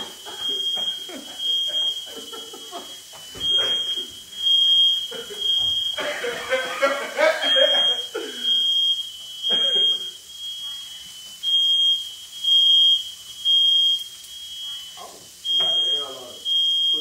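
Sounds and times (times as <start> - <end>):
smoke alarm beeping: 0.0 - 17.0.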